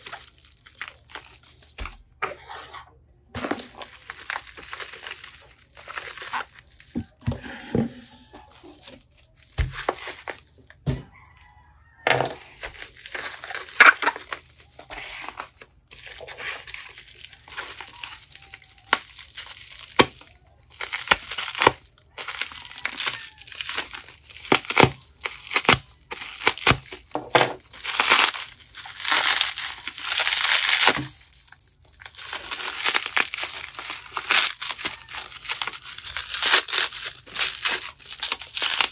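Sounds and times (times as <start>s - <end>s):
bubble wrap crinkling: 0.0s - 38.9s.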